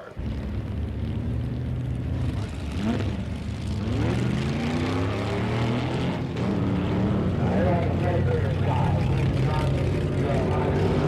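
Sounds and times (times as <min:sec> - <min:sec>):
car engines idling and revving: 0:00.0 - 0:11.0.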